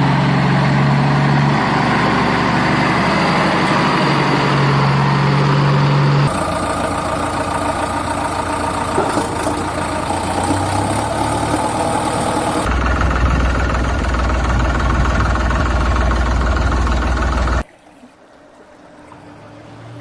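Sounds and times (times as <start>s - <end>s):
deep heavy engine rumble: 0.0s - 17.6s
vehicle engine running: 0.0s - 17.6s.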